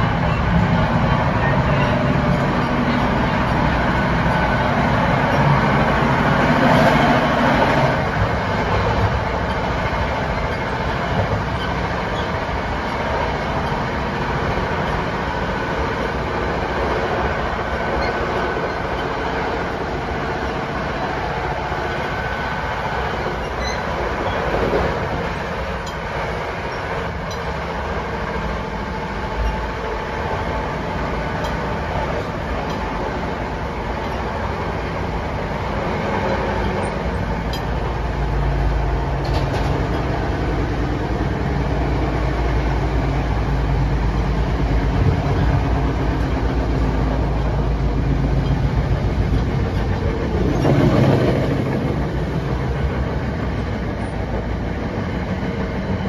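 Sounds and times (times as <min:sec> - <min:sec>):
wheels rumbling on rail: 0:00.0 - 0:56.0.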